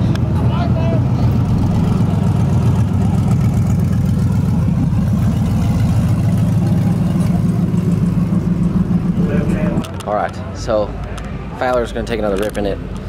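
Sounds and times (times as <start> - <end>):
truck engine rumbling past: 0.0 - 13.0.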